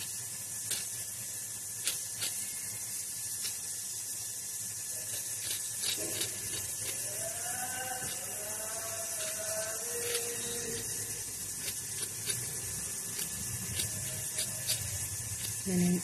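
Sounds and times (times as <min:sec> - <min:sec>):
vegetable peeler scraping: 0:00.0 - 0:02.6, 0:04.9 - 0:16.0
steady high hiss: 0:00.0 - 0:16.0.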